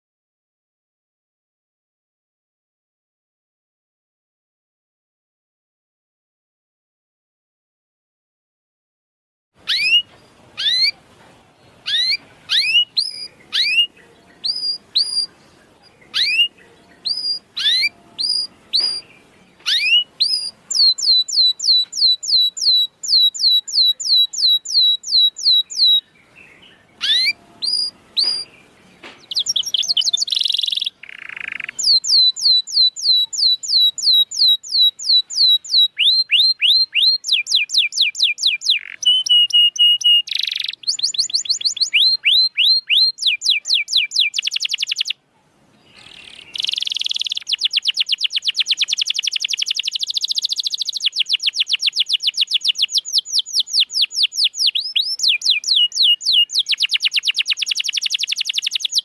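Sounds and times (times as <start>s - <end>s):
canary singing: 9.6s - 45.2s, 45.8s - 59.0s.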